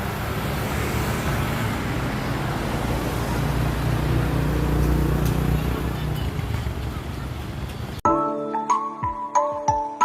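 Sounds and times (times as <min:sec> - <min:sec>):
road noise: 0:00.0 - 0:08.0
vehicle engine humming: 0:00.0 - 0:08.0.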